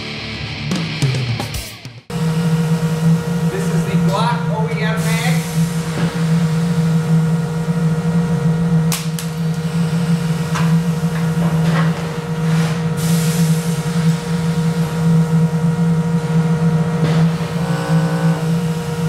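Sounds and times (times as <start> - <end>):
low machine hum: 2.1 - 19.0.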